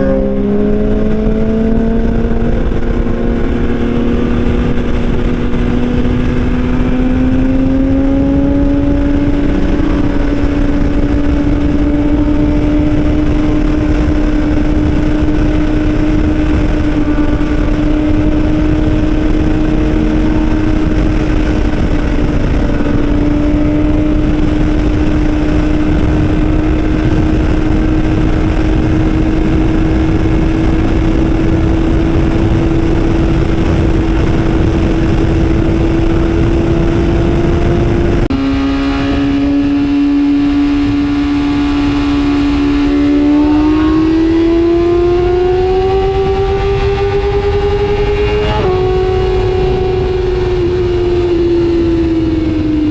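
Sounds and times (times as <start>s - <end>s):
continuous rushing noise: 0.0s - 52.9s
motorcycle engine at high revs: 0.0s - 52.9s.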